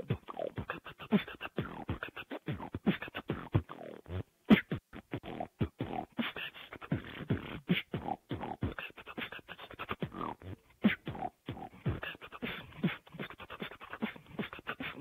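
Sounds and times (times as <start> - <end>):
person beatboxing: 0.0 - 15.0.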